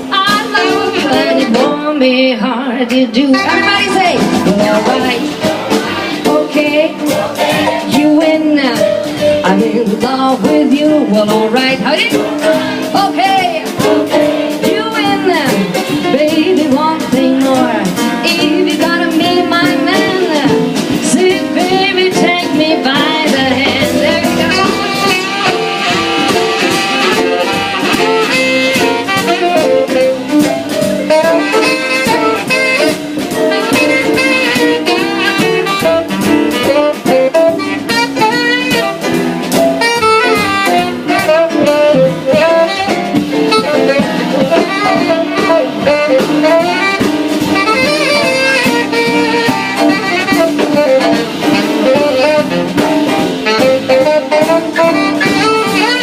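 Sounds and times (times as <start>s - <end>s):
saxophone solo: 0.0s - 1.9s, 3.2s - 9.6s, 10.9s - 56.0s
jazz band with drum kit: 0.0s - 56.0s.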